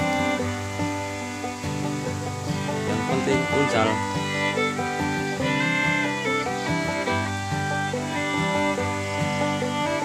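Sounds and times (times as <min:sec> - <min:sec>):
plucked string instrumental music: 0:00.0 - 0:10.0.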